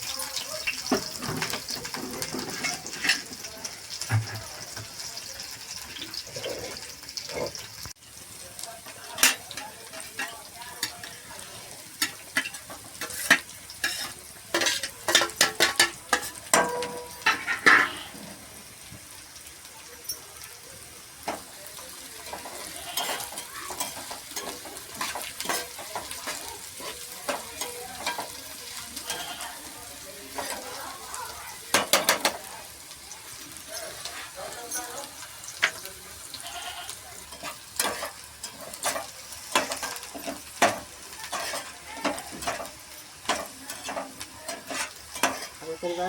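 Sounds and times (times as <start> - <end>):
food sizzling in hot oil: 0.0 - 46.0
metal spoon scraping pan: 0.8 - 7.8, 8.8 - 18.4, 22.2 - 30.8, 33.6 - 46.0.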